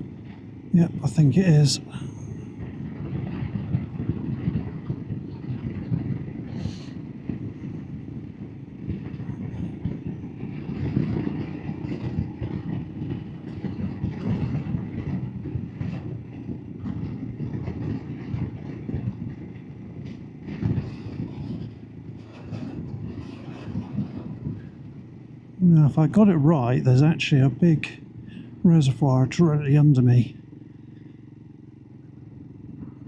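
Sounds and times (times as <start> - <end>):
single-cylinder motorcycle engine cruising: 0.0 - 33.0.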